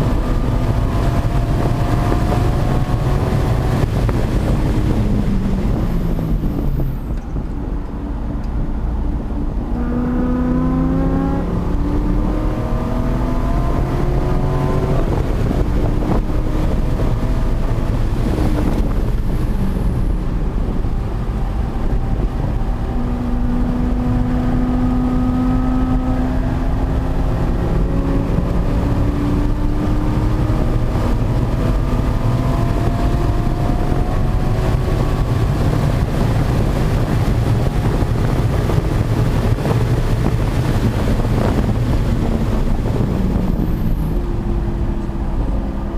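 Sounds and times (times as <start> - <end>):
sports car engine accelerating: 0.0 - 45.9
wind noise rumble: 0.0 - 45.9.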